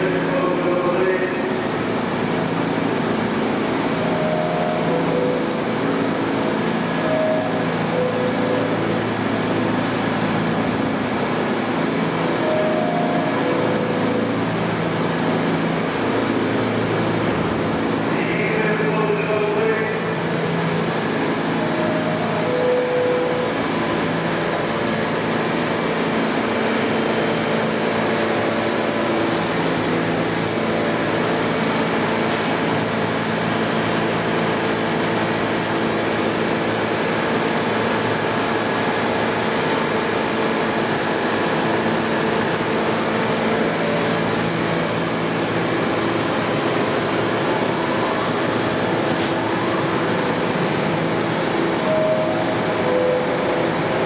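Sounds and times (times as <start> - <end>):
subway train wheels rumbling on rails: 0.0 - 54.0.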